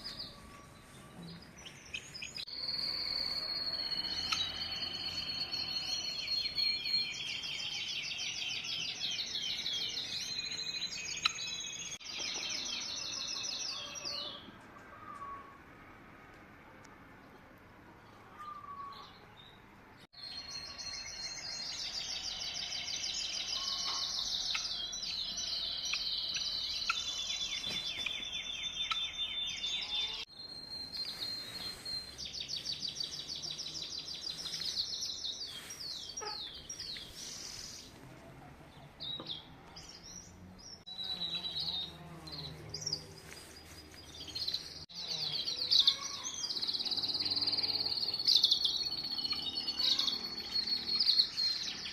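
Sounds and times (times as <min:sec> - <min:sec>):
songbirds singing in high trills: 0:00.0 - 0:15.6, 0:18.3 - 0:38.0, 0:38.7 - 0:51.9.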